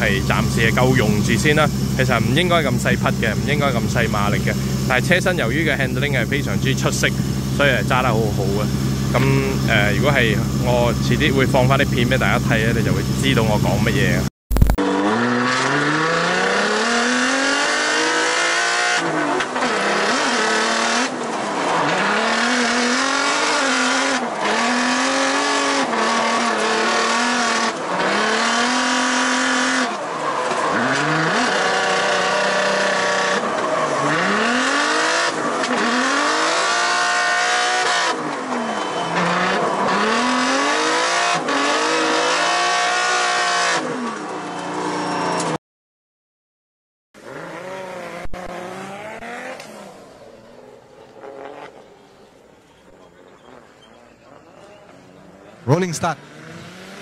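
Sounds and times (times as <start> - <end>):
car engine revving: 0.0 - 45.6, 47.2 - 57.0.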